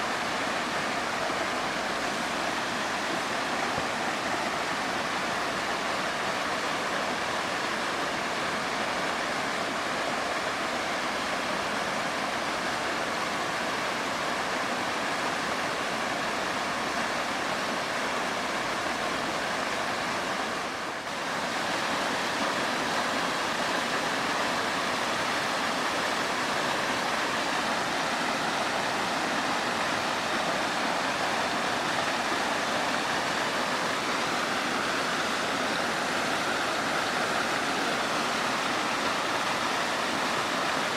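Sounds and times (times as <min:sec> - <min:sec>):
waterfall roaring onto rock: 0:00.0 - 0:40.9.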